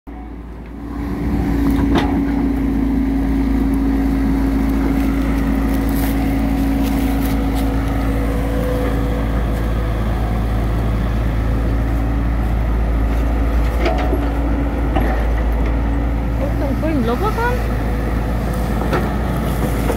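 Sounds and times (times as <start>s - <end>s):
excavator diesel engine droning: 0.1s - 19.9s.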